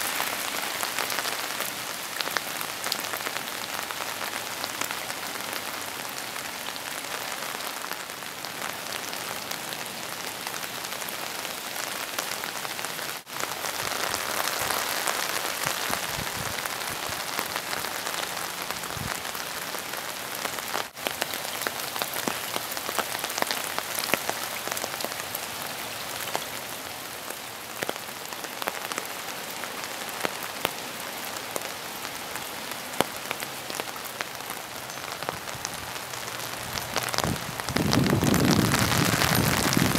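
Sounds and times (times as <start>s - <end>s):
raindrops tapping close by: 0.0s - 25.4s, 26.1s - 39.9s
rain falling: 0.0s - 39.9s.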